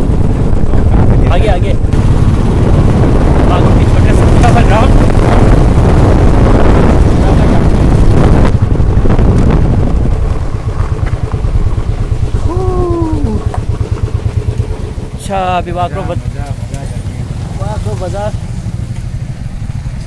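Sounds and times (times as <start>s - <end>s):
motorcycle running: 0.0s - 20.0s
wind buffeting microphone: 0.0s - 20.0s.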